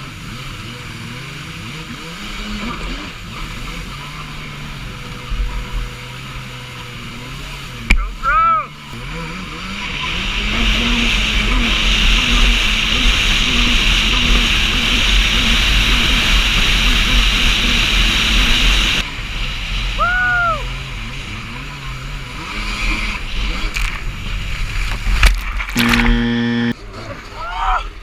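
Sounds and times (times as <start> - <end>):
rush of water and wind: 0.0 - 25.8
jet ski engine running: 0.0 - 27.4.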